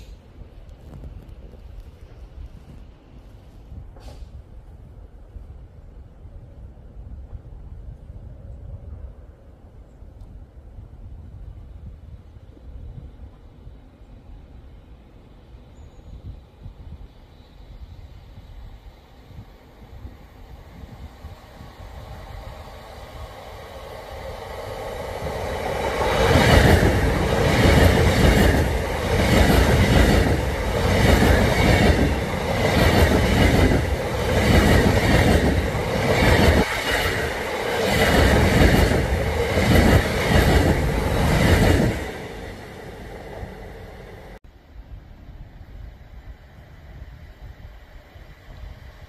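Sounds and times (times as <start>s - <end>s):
high-speed train passing: 0.0s - 49.0s.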